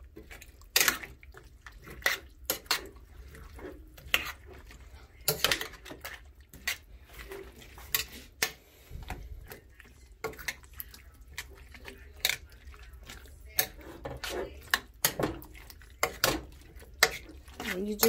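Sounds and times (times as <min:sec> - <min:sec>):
spoon clinking and scraping pot: 0:00.1 - 0:18.0.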